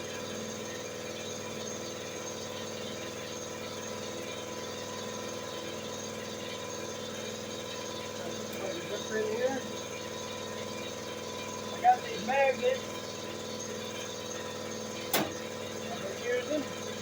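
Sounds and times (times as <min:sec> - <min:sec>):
motor running drone: 0:00.0 - 0:17.0.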